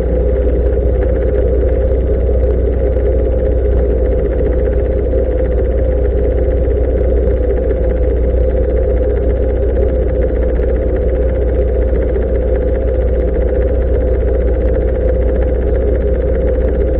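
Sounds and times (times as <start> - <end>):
motorcycle engine running: 0.0 - 16.9.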